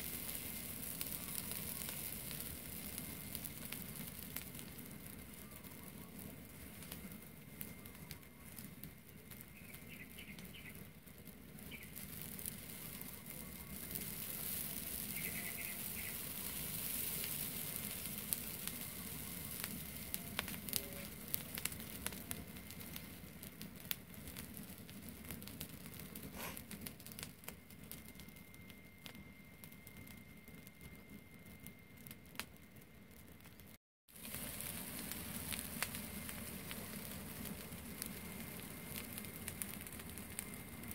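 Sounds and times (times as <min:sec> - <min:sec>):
straw fire crackling and hissing: 0:00.0 - 0:40.9.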